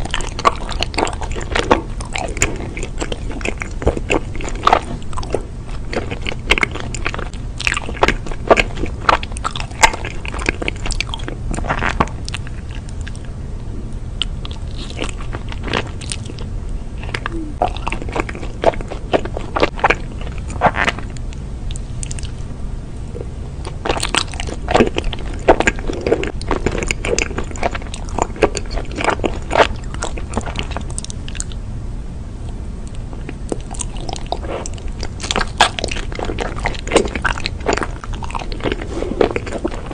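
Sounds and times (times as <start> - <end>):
soft chewing: 0.0 - 31.6, 32.5 - 39.9
steady low hum: 0.0 - 39.9.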